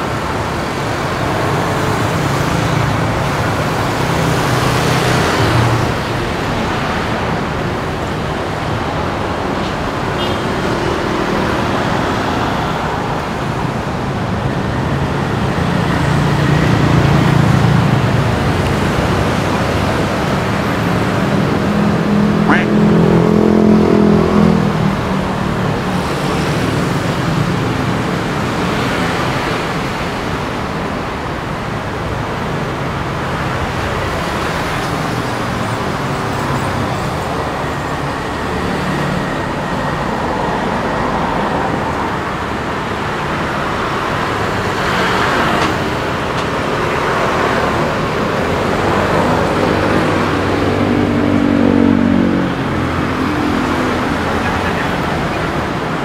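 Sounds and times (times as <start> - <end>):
city street traffic: 0.0 - 56.0.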